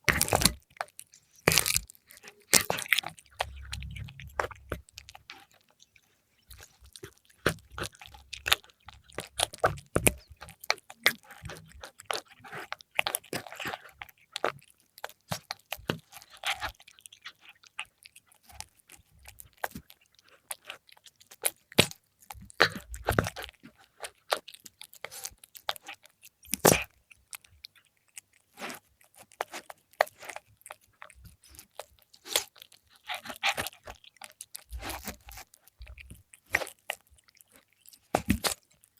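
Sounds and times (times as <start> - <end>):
cat chewing and crunching food: 0.0 - 38.9.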